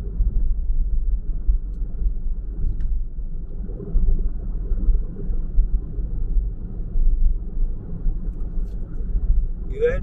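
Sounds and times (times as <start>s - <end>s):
car interior road and engine drone: 0.0s - 10.0s.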